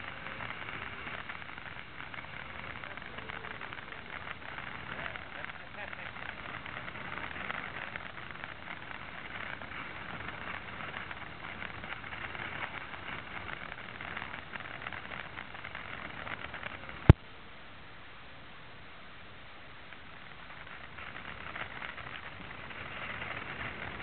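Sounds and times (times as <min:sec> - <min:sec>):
firework fountain hissing and crackling: 0:00.0 - 0:24.0.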